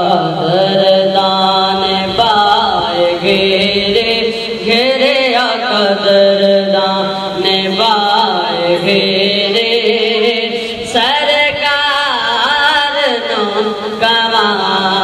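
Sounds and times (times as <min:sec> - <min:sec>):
boy singing devotional hymn: 0:00.0 - 0:15.0.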